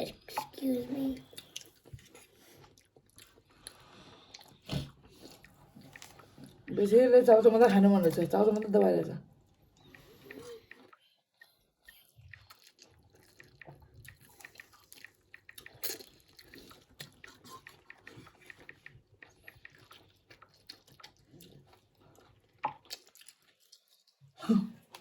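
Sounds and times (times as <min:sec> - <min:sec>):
people chewing noodles: 0:00.0 - 0:06.9, 0:07.5 - 0:25.0.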